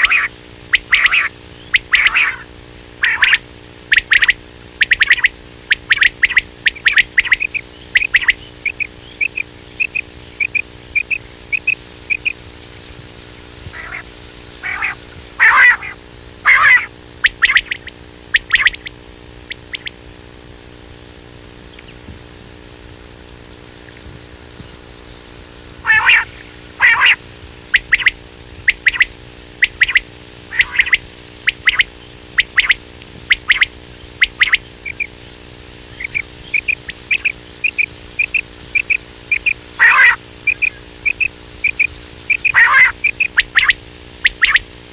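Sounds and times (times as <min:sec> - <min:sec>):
quail calling: 0:00.0 - 0:20.1, 0:22.9 - 0:44.7
steady low hum: 0:00.0 - 0:44.9.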